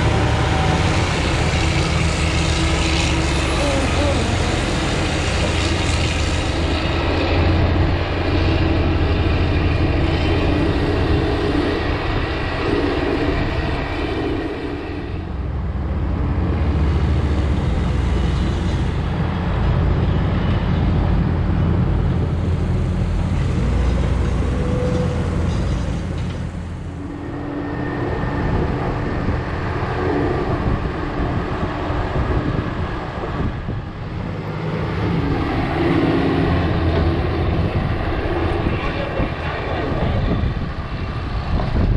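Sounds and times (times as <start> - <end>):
diesel farm machinery engines: 0.0 - 41.9.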